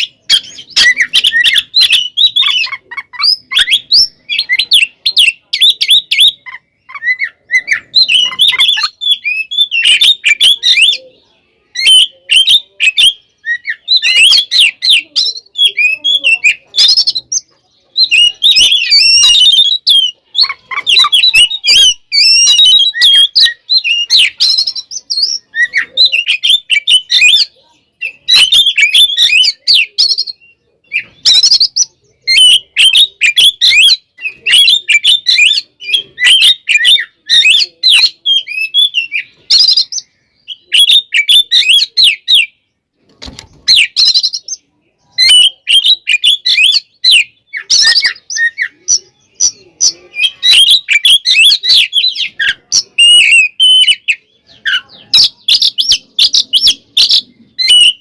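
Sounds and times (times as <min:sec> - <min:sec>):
bird sharp chattering notes: 0:00.0 - 0:58.0
bird singing fast varied song: 0:00.0 - 0:58.0.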